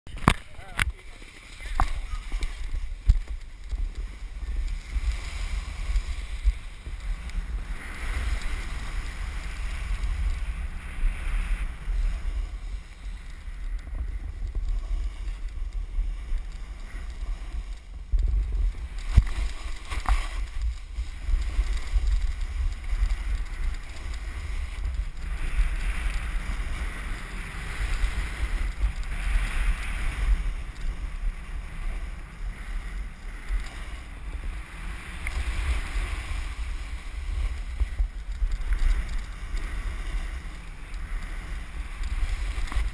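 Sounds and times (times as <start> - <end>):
wind buffeting microphone: 0.1 - 42.9
snowboard edges scraping snow: 1.0 - 42.9.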